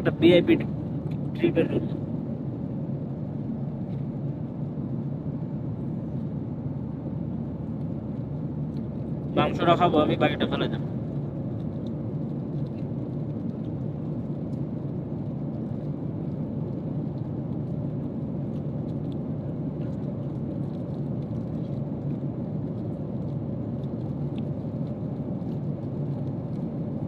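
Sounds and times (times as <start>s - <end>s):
airliner cabin engine rush: 0.0s - 27.0s.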